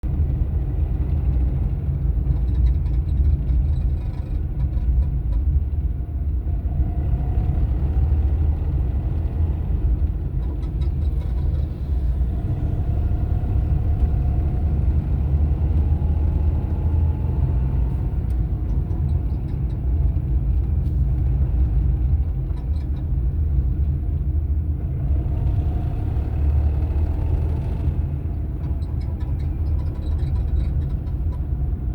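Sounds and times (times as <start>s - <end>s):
car engine rumbling: 0.0s - 31.9s
faint engine whine: 0.0s - 31.9s.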